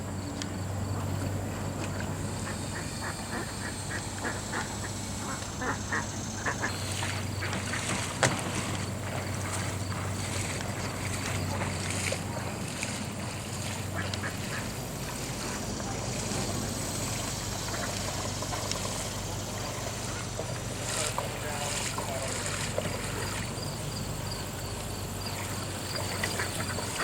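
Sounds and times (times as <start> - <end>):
steady low hum: 0.0 - 27.0
ducks quacking: 0.8 - 27.0.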